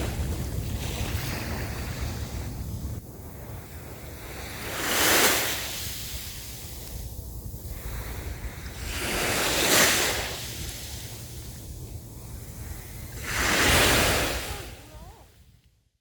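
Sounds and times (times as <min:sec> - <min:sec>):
sea waves washing onto shore: 0:00.0 - 0:15.3
wind rumble on microphone: 0:00.0 - 0:15.8.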